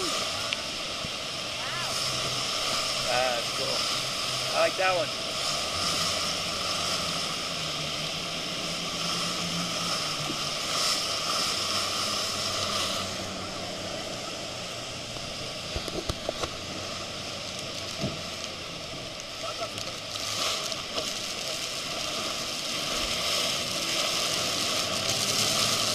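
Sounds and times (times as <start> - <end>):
churning water: 0.0 - 25.9
speedboat engine droning: 0.0 - 25.9
waterfall roar: 0.0 - 25.9.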